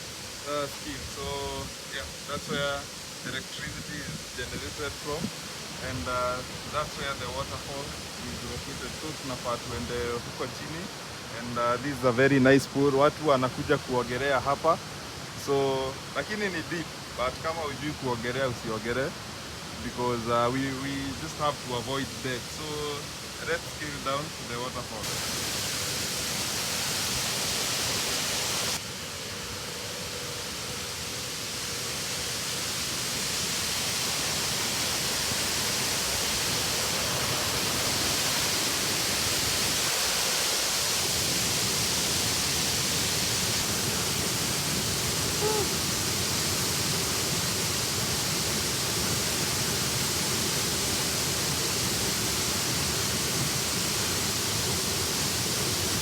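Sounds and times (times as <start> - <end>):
river and waterfall rushing: 0.0 - 56.0.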